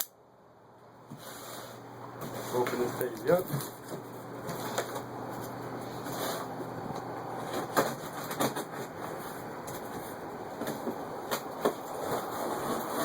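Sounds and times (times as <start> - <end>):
cardboard box rustling and scraping: 1.1 - 6.7, 7.4 - 13.0.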